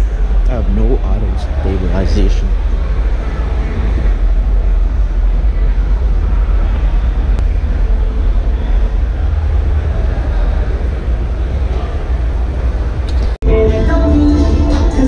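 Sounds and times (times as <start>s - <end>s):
crowd din in arena: 0.0s - 15.0s
heavy low rumble: 0.0s - 15.0s.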